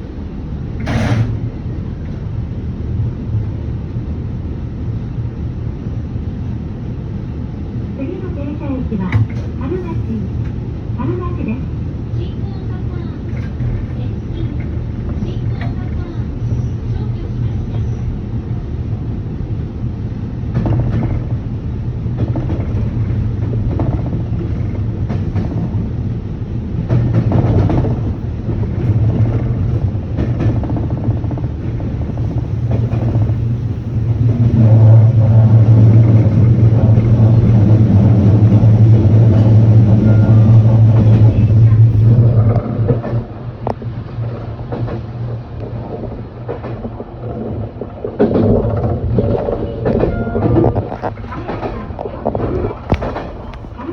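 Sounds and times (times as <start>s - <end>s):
rail clicks: 0.0s - 3.8s, 7.2s - 18.5s, 19.5s - 53.9s
train rumbling on rails: 0.0s - 53.9s.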